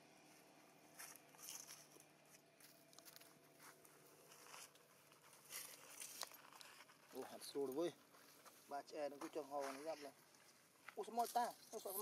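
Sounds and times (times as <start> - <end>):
faint dry crackles: 0.2 - 12.0.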